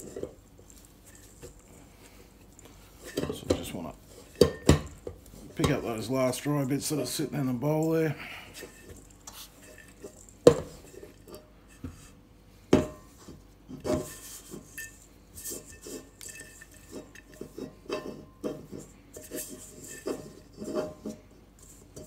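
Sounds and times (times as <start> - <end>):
hand scraping steel bowl: 0.0 - 1.8, 2.4 - 12.2, 13.1 - 22.0.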